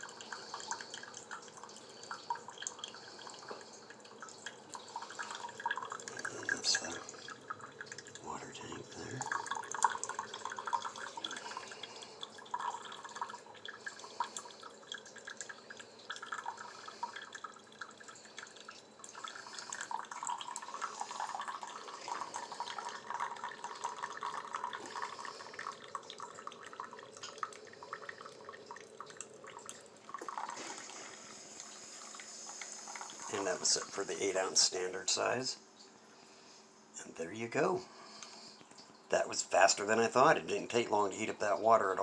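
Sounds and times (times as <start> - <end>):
coffee machine humming: 0.0 - 35.2
coffee dripping into cup: 0.0 - 36.3.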